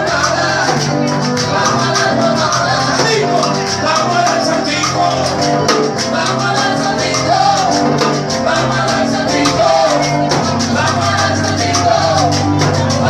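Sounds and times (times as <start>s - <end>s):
shaker beat: 0.0s - 13.0s
walking bass line: 0.0s - 13.0s.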